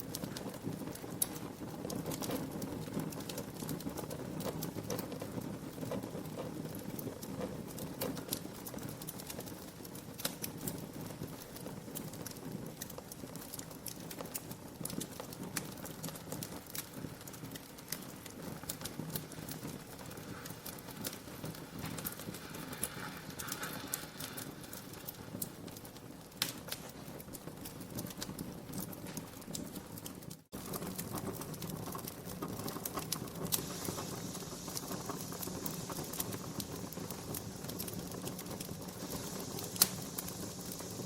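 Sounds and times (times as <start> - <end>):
low rush of flames: 0.0 - 41.0
wood fire crackling and popping: 0.0 - 41.0.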